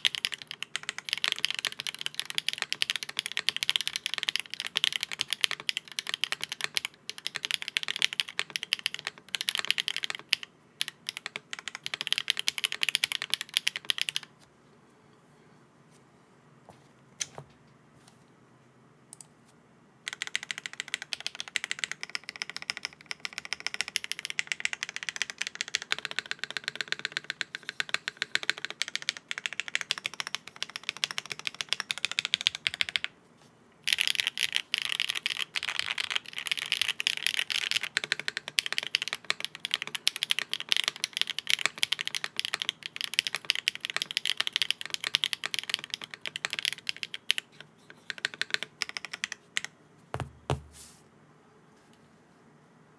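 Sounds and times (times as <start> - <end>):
mechanical keyboard typing: 0.0 - 14.3, 20.1 - 33.1, 33.8 - 50.6.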